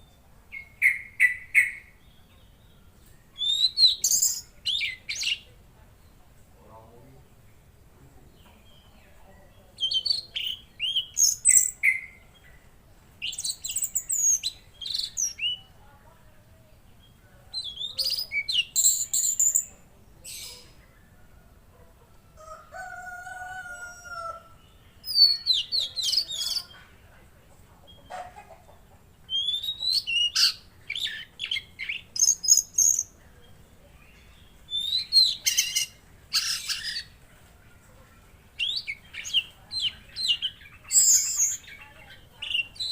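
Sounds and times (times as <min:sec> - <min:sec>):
songbird chirping and trilling: 0:00.0 - 0:42.9.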